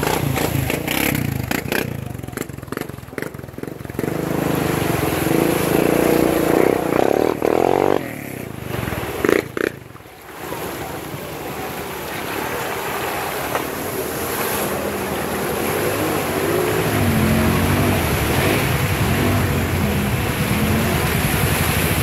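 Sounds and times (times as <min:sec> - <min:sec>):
off-road vehicle engine revving: 0:00.0 - 0:09.8, 0:10.6 - 0:22.0
mud and water splashing: 0:00.0 - 0:22.0.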